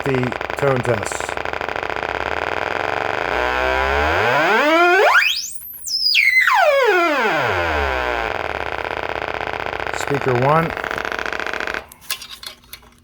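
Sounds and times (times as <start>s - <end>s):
electronic siren rising and falling: 0.0s - 11.8s.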